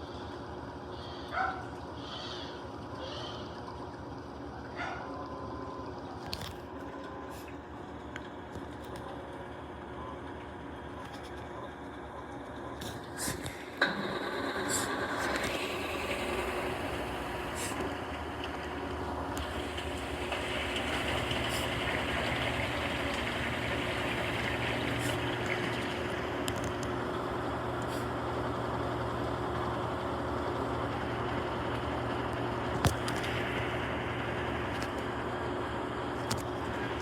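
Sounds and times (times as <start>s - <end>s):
washing machine spinning: 0.0s - 37.0s.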